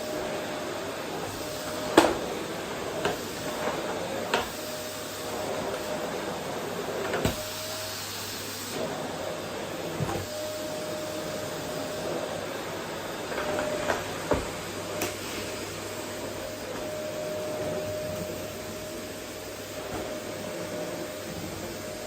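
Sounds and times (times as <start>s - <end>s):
vacuum cleaner whining: 0.0s - 22.0s.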